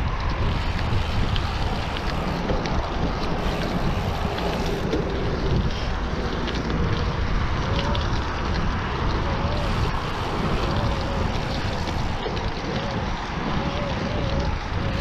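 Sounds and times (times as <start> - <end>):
bike clicks and rattles: 0.0 - 15.0
bike tyres rolling on dirt: 0.0 - 15.0
wind noise on microphone: 0.0 - 15.0.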